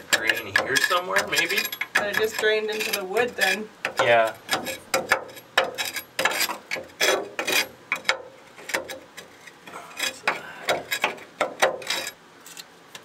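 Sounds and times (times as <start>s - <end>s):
metal tool scraping wood and rust: 0.0s - 12.8s.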